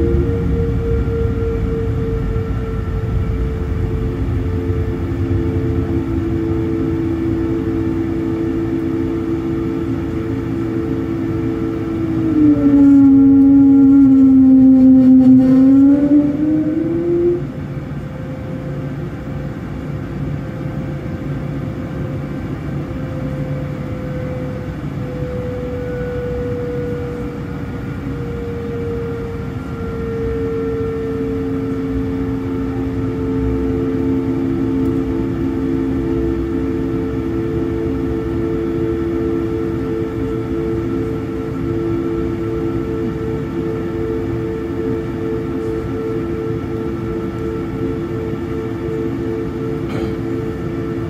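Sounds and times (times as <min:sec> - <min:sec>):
jet engines rumbling and whining: 0:00.0 - 0:51.0
low engine tone: 0:00.0 - 0:51.0.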